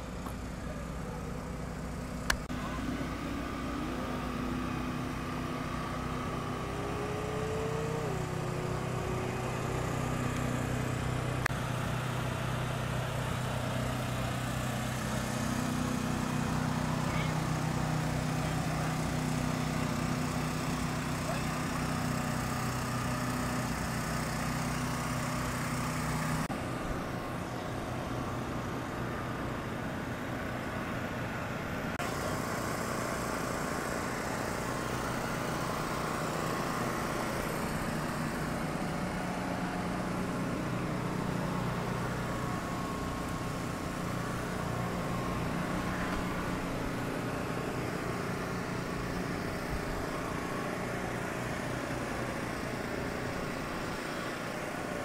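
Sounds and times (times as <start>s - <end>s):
engine idling: 0.0s - 55.0s
outdoor background noise: 0.0s - 55.0s.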